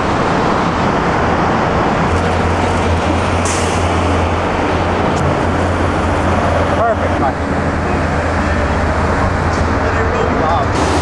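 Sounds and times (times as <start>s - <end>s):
highway traffic rush: 0.0s - 11.0s.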